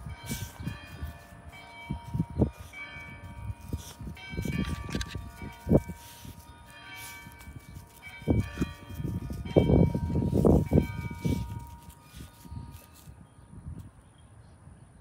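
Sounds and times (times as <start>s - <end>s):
bells ringing: 0.0s - 13.3s.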